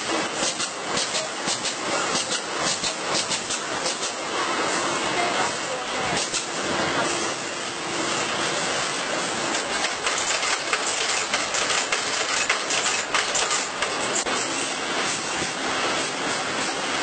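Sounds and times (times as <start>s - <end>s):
factory machinery clicking and clattering: 0.0s - 17.0s.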